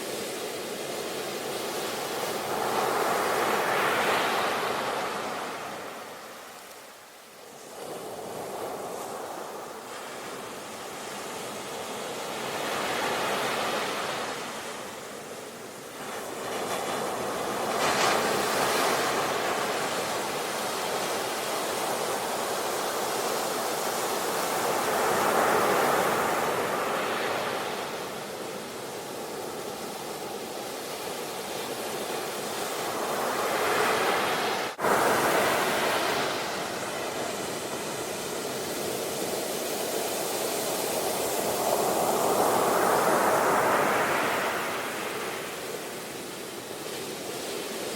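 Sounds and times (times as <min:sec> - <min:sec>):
sea waves washing onto shore: 0:00.0 - 0:47.9.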